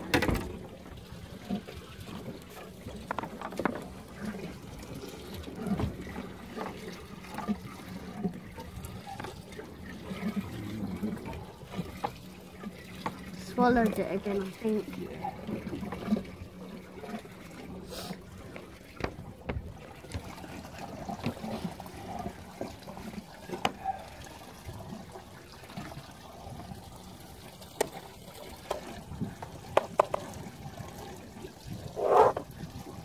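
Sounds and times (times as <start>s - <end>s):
water lapping against boat: 0.0s - 33.0s.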